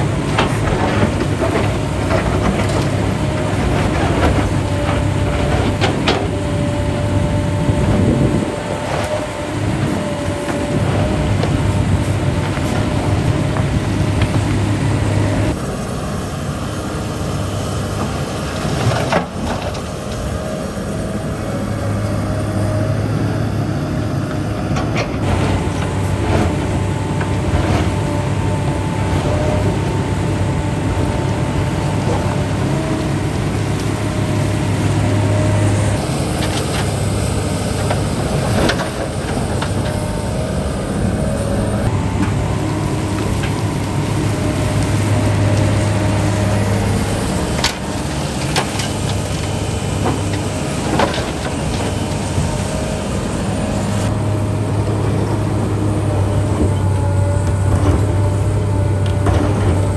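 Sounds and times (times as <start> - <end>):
heavy machinery diesel engine drone: 0.0 - 59.9.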